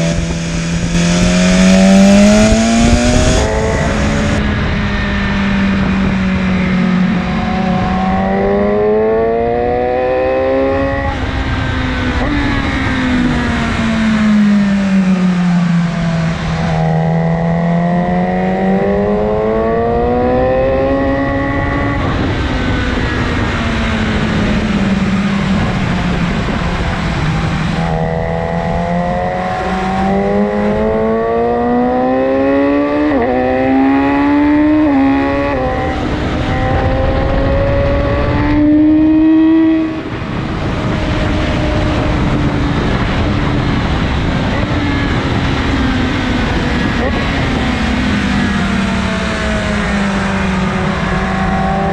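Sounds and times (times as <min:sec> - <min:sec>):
low engine drone: 0:00.0 - 0:51.9
motorcycle engine accelerating: 0:00.0 - 0:51.9.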